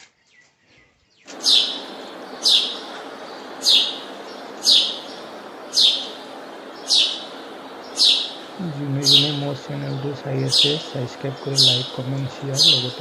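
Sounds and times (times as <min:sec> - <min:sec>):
bird chirping: 0:00.0 - 0:13.0
steady background hiss: 0:01.3 - 0:13.0.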